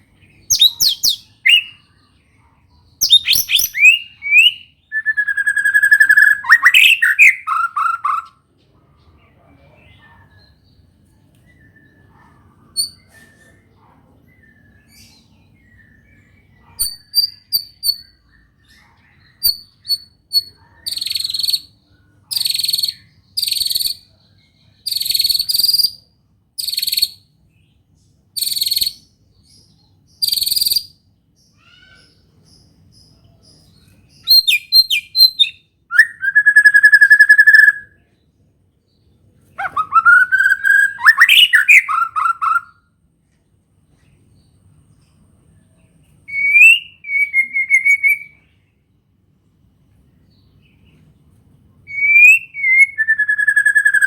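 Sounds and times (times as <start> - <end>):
bird singing: 0.0 - 42.9, 43.9 - 49.0, 50.2 - 54.0.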